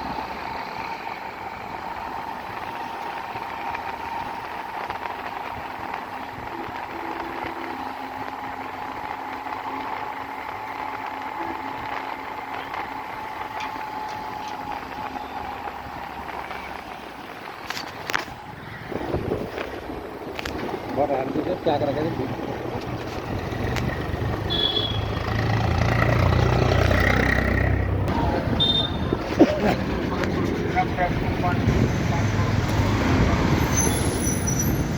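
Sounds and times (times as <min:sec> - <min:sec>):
vehicle rumble and road noise: 0:00.0 - 0:34.9.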